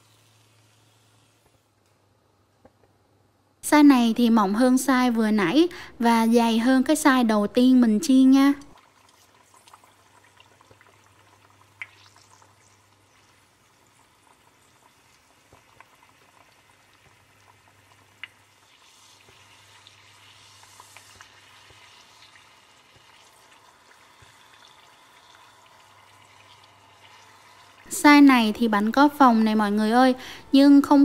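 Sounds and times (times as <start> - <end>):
dough sizzling in hot oil: 0.0 - 1.8, 6.5 - 31.0.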